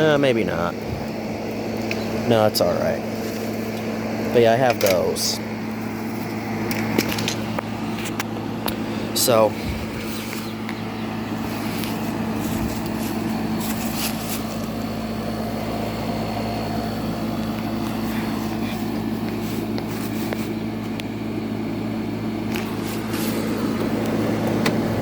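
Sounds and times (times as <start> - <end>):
air conditioner fan rush: 0.0 - 25.0
compressor hum: 0.0 - 25.0.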